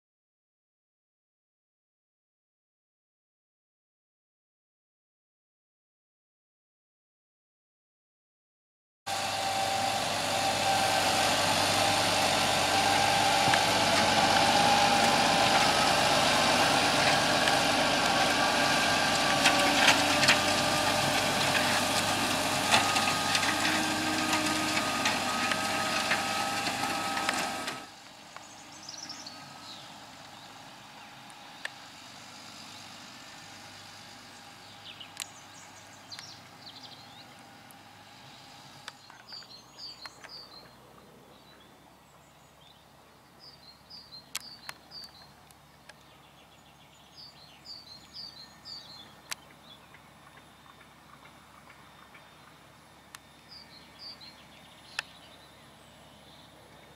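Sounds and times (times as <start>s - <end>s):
tractor diesel engine under load: 9.1s - 42.4s, 43.6s - 56.9s
distant tractor working: 9.1s - 56.9s
birds chirping: 11.2s - 56.9s.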